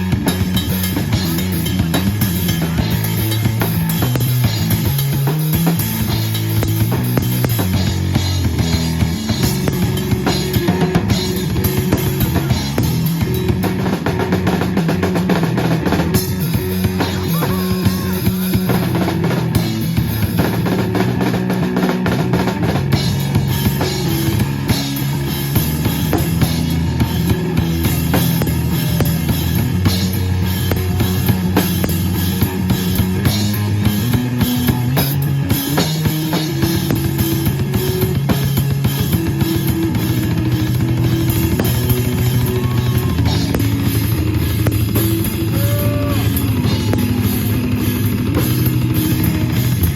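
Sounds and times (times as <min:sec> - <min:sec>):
live rock band: 0:00.0 - 0:49.9.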